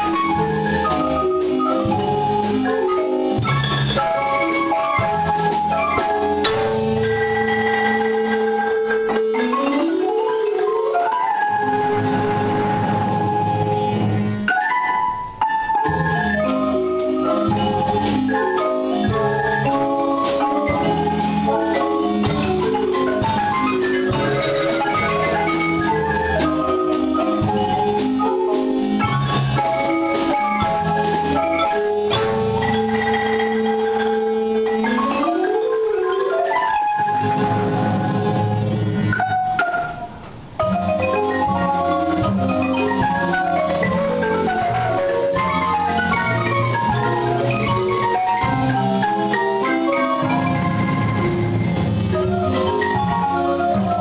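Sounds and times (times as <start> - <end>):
drum kit: 0.0 - 54.0
marimba mallet runs: 0.0 - 54.0.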